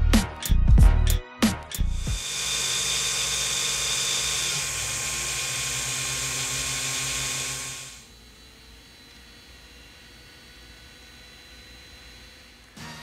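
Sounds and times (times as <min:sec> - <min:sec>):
cooling fan whirring: 0:02.2 - 0:12.8.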